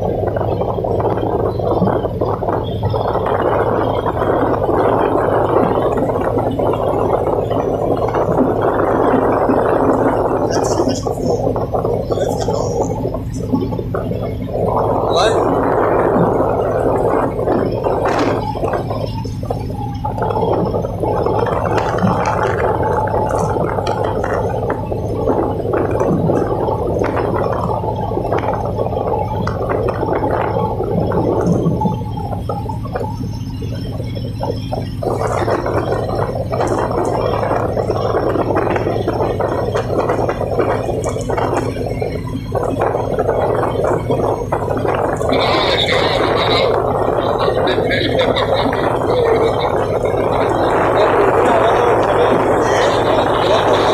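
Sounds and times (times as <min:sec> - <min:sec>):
boat diesel engines running: 0:00.0 - 0:53.9
churning gurgling water: 0:00.0 - 0:53.9.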